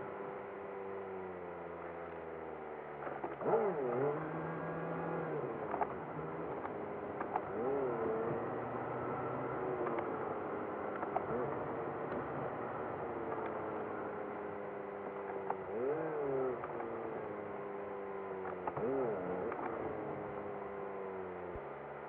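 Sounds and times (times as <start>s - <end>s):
pitched-up car engine: 0.0s - 22.0s
road noise inside car: 0.0s - 22.0s.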